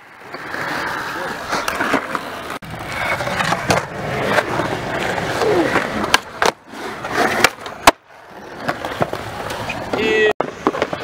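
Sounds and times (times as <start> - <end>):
skateboard wheels rolling on concrete: 0.0 - 11.0
skateboard clacking on ground: 0.2 - 8.0, 8.6 - 11.0.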